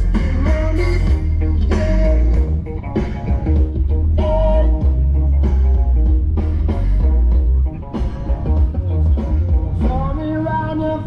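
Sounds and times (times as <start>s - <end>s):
loud guitar rock music: 0.0s - 11.0s.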